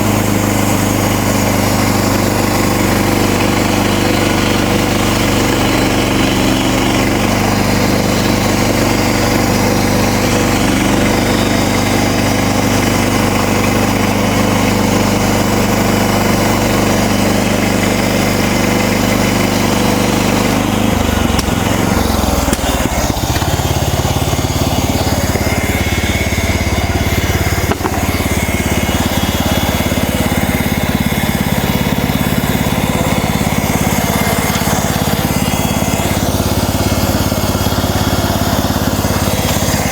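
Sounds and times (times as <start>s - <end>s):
band blade sawing log: 0.0s - 39.9s
gas engine running: 0.0s - 39.9s.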